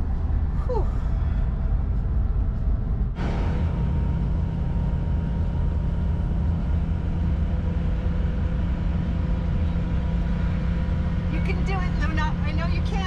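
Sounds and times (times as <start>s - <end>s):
road noise: 0.0s - 13.0s
van engine droning: 0.0s - 13.0s.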